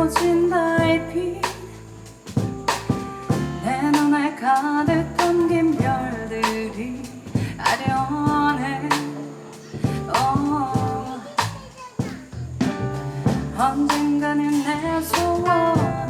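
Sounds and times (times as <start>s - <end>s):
double bass: 0.0s - 4.2s, 4.8s - 9.2s, 9.8s - 16.0s
drums and cymbals: 0.0s - 16.0s
piano: 0.0s - 16.0s.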